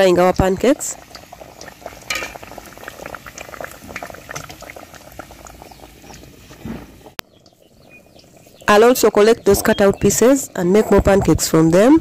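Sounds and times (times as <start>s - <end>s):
dough deep-frying in oil: 0.0s - 12.0s.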